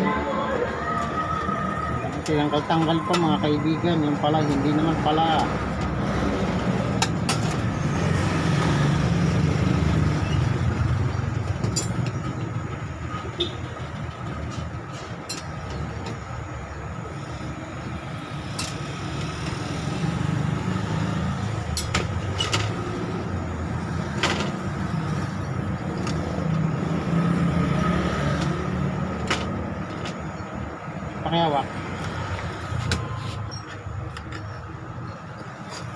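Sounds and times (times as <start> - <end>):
road traffic rumble: 0.0 - 35.9.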